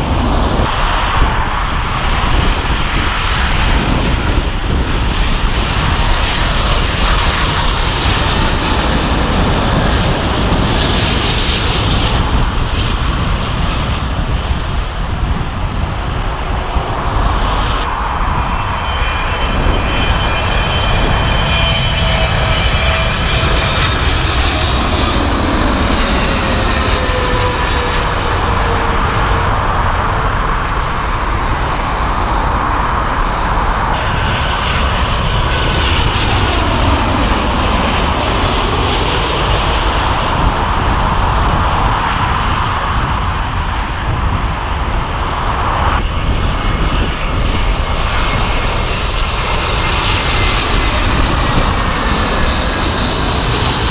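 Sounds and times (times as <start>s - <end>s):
jet airliners passing overhead: 0.0s - 53.9s.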